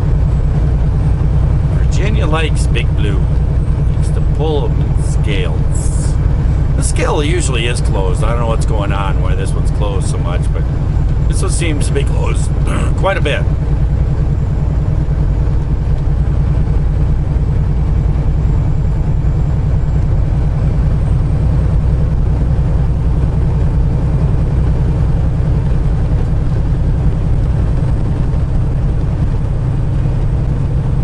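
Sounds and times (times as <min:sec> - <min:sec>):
road noise: 0:00.0 - 0:31.0
truck engine droning: 0:00.0 - 0:31.0.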